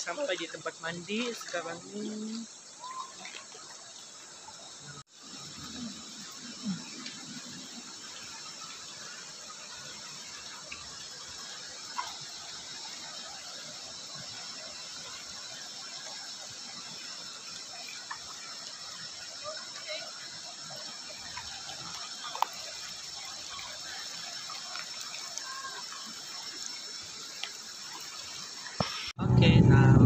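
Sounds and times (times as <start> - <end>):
river water running over rocks: 0.0 - 29.2
insects chirring: 0.0 - 30.0.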